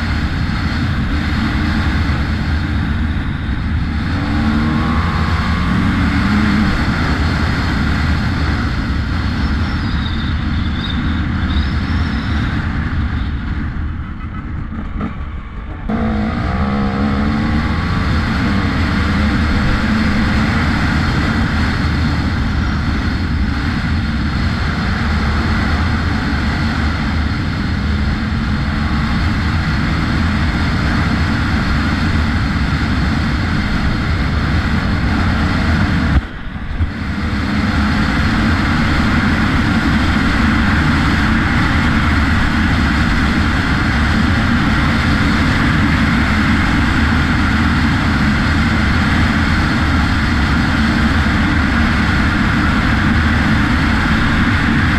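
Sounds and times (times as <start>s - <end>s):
dirt bike engine running: 0.0s - 54.9s.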